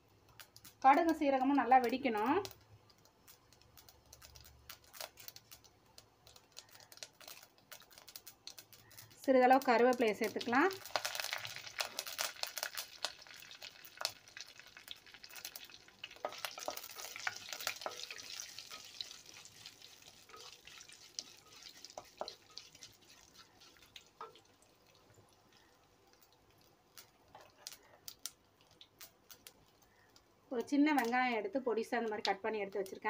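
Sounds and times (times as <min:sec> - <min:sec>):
seeds sizzling in hot oil: 0:00.0 - 0:33.0.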